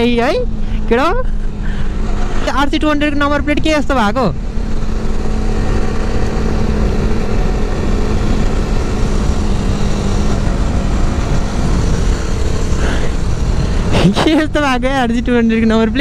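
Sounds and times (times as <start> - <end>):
motorcycle engine running: 0.0 - 16.0
wind rushing on microphone: 0.0 - 16.0.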